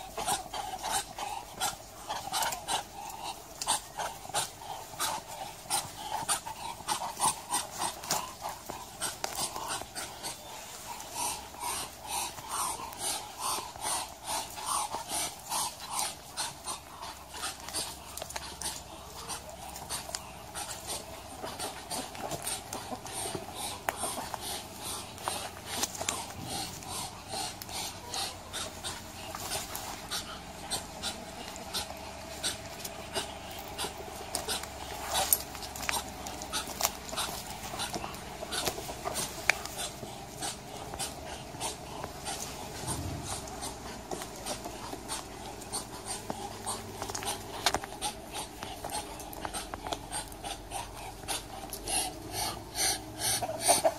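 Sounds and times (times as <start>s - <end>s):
ducks hissing: 0.0s - 53.9s.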